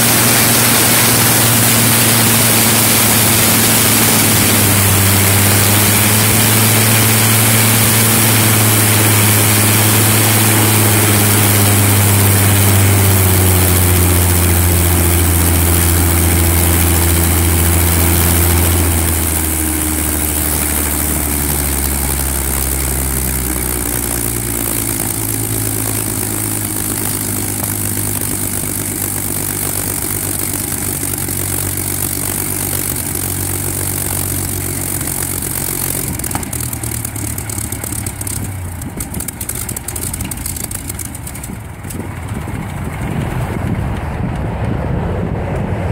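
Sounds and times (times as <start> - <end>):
aircraft piston engine running: 0.0 - 45.9.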